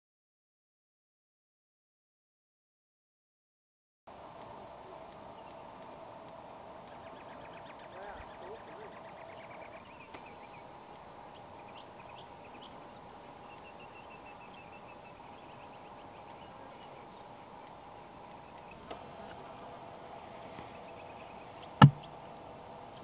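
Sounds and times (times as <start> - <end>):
insect chirping: 4.1 - 23.0.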